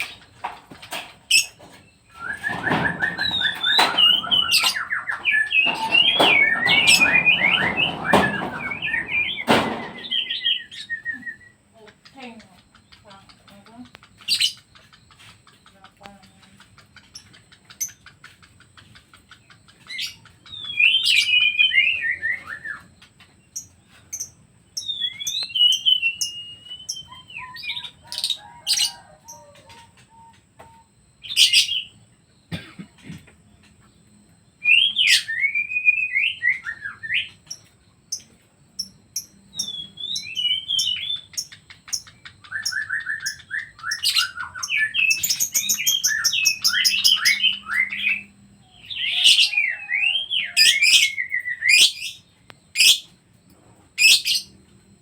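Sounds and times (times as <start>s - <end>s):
songbirds warbling: 0.0s - 55.0s.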